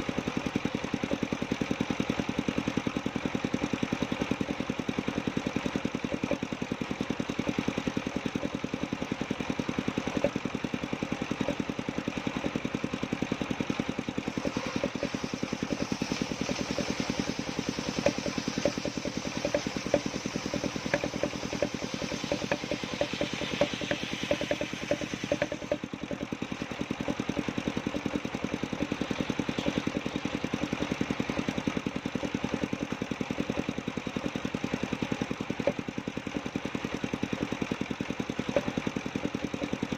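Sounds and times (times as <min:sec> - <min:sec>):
saw engine running: 0:00.0 - 0:39.9.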